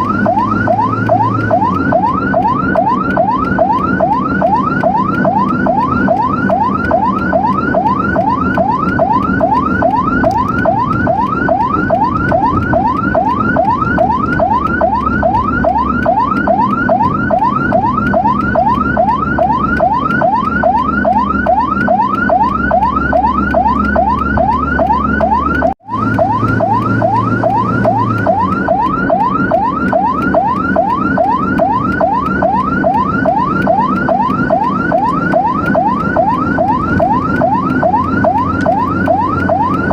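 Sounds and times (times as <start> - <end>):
emergency siren yelping: 0.0 - 39.9
moving vehicle rumble: 0.0 - 39.9.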